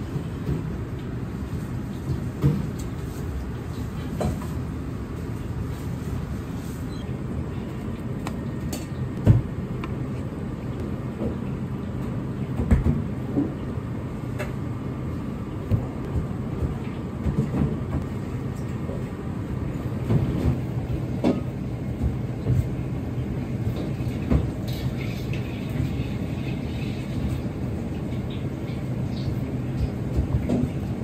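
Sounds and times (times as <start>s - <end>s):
kitchen machinery rumble: 0.0s - 31.0s.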